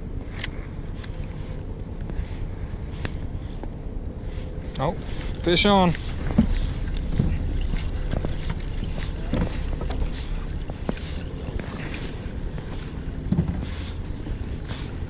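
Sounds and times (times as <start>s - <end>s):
boat engine rumble: 0.0s - 15.0s
wind on microphone: 0.0s - 15.0s.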